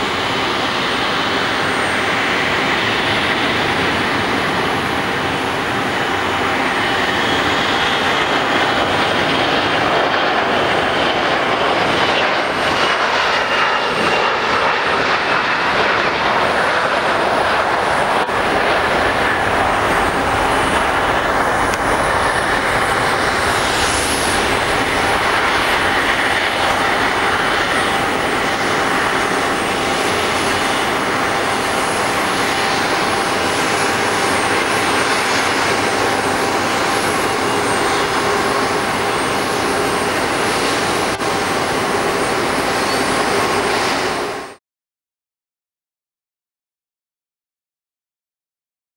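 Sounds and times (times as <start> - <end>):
jet engines at take-off: 0.0 - 44.6.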